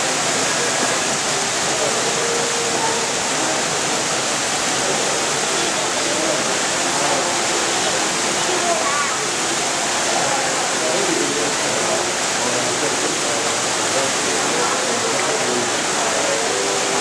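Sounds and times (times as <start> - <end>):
small waterfall pouring: 0.0 - 17.0.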